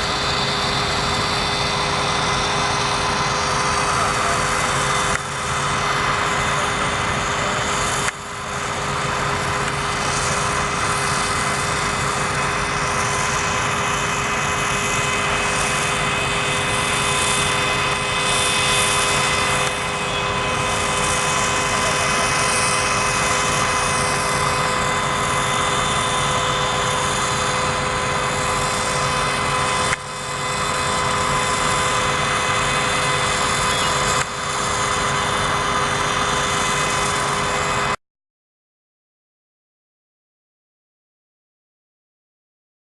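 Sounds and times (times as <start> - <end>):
fire engine running with whine: 0.0 - 38.0.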